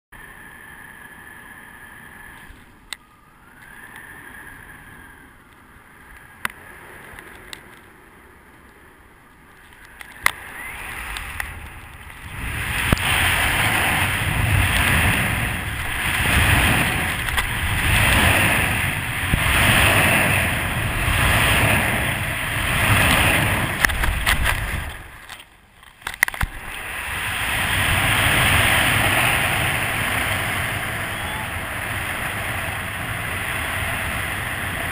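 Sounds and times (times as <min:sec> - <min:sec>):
wind rushing over camera: 0:00.2 - 0:34.9.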